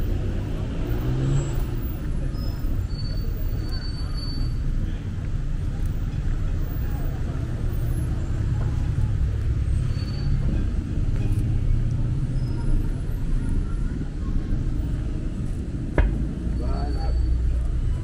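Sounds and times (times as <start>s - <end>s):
faint voices: 0.0s - 18.0s
road traffic rumble: 0.0s - 18.0s.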